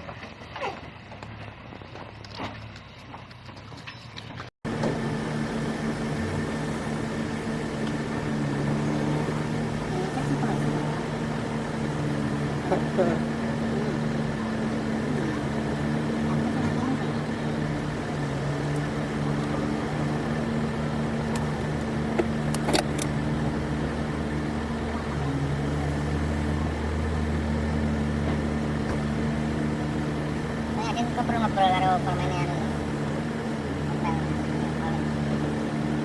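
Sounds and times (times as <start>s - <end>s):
truck engine running: 0.0s - 36.0s.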